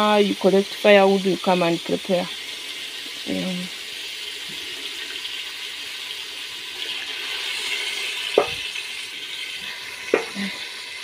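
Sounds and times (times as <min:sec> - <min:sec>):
pot hissing and sizzling: 0:00.0 - 0:11.0
water pouring into a pot: 0:00.0 - 0:11.0.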